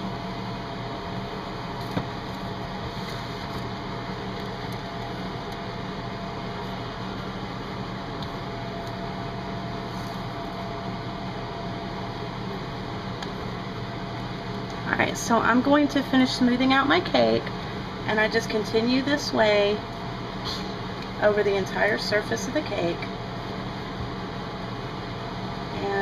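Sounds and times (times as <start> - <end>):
background hum and hiss: 0.0 - 26.0.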